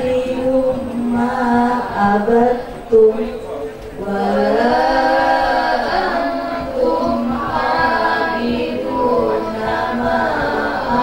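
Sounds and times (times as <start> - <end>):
women chanting a recitation: 0.0 - 11.0.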